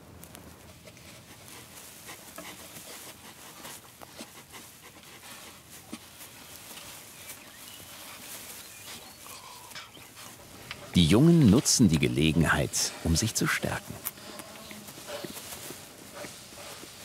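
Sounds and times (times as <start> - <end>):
badgers scratching and rustling: 0.0 - 17.0.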